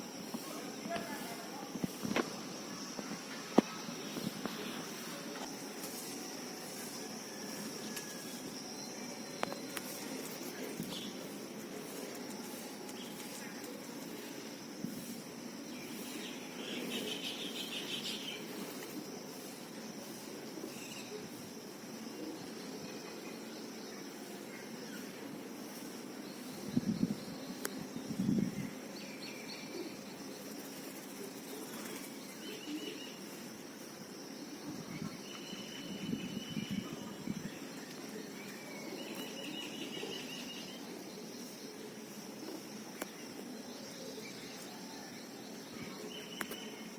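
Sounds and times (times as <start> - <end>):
high-pitched hiss: 0.0 - 46.9
high-pitched insect drone: 0.0 - 46.9.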